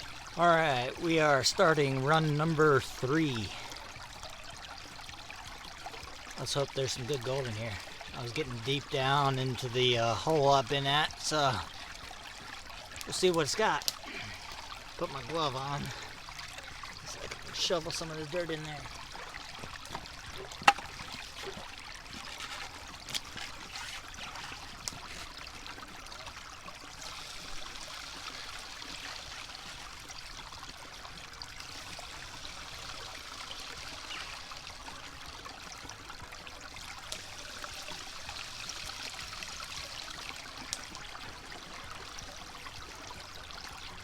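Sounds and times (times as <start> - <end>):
creek water running: 0.0 - 44.0.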